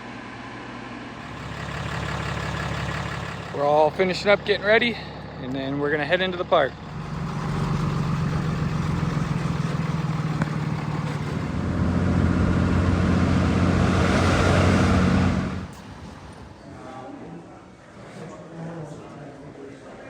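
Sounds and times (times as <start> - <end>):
vehicle engine hum: 1.1 - 18.1
road and wind noise: 1.2 - 17.6.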